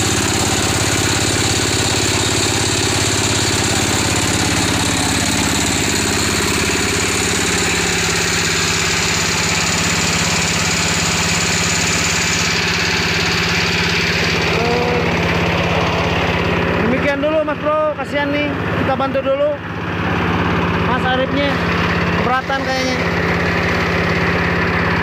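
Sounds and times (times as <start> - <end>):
small diesel engine chugging: 0.0 - 25.0.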